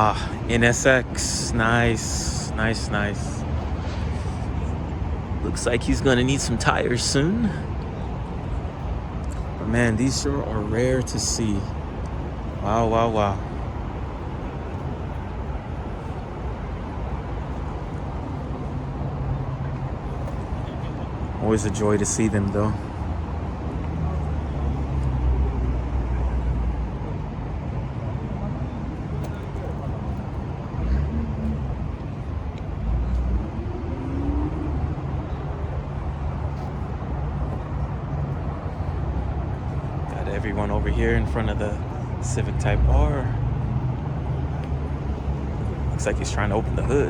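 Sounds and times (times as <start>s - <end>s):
engine droning: 0.0s - 47.0s
traffic hum: 0.0s - 47.0s.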